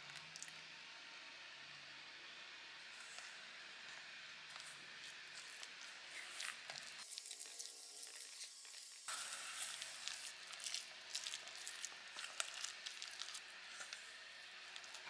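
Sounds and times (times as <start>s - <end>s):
spatula mixing dough in metal bowl: 2.8s - 15.0s.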